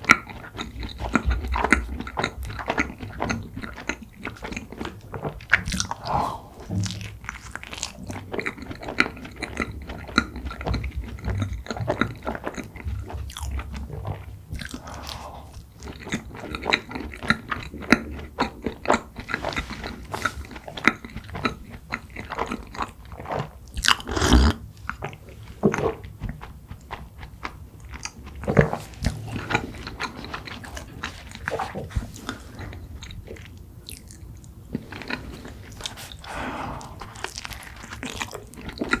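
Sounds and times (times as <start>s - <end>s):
biting into soft buns: 0.0s - 39.0s
wet chewing and mouth smacks: 0.0s - 39.0s.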